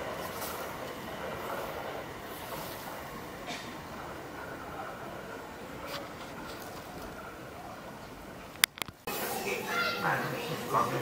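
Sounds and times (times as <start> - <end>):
train rushing on the line: 0.0 - 8.5, 9.1 - 11.0.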